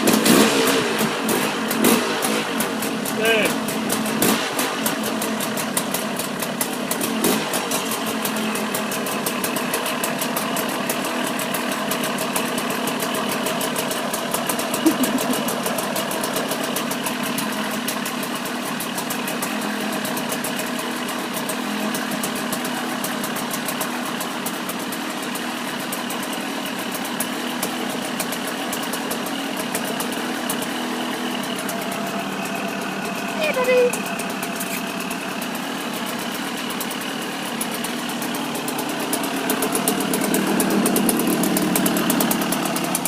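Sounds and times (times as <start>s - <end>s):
two-stroke engine idling: 0.0s - 43.0s.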